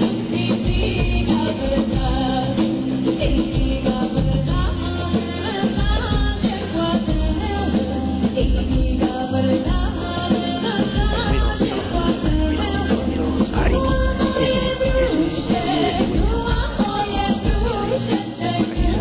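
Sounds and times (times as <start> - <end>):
song with singing and drums: 0.0 - 19.0.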